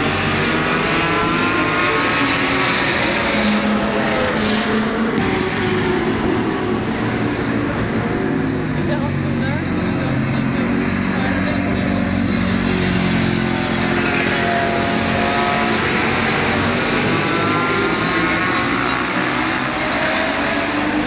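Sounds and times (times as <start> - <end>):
racing motorcycles revving: 0.0 - 21.0.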